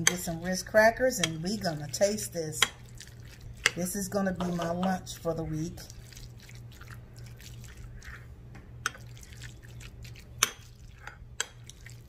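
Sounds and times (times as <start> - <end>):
wet mixing sounds: 0.0 - 12.0.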